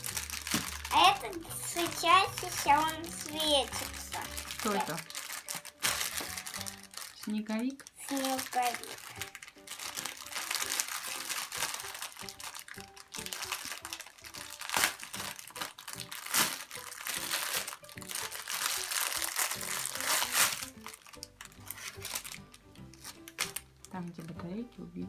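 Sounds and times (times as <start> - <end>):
plastic packaging crinkling: 0.0 - 24.0
background music: 0.0 - 25.0.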